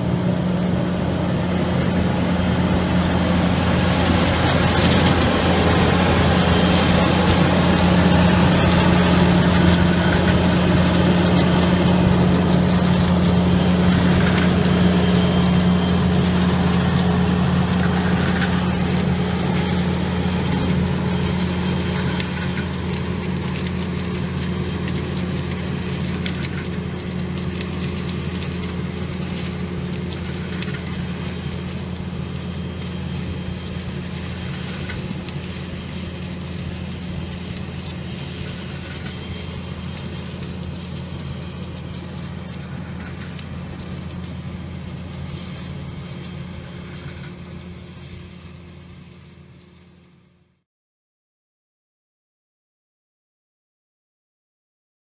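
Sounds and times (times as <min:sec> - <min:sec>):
diesel engine running: 0:00.0 - 0:50.6.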